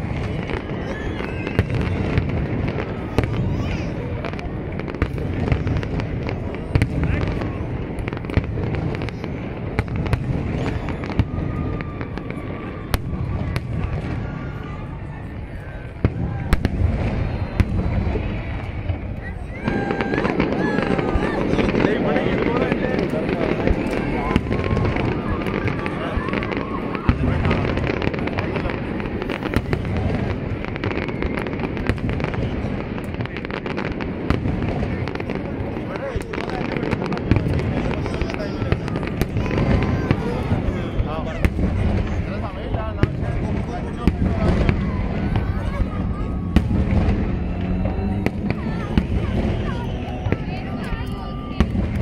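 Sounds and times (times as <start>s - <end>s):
fireworks cracks and bangs: 0.0s - 52.0s
low rumble of explosions: 0.0s - 52.0s.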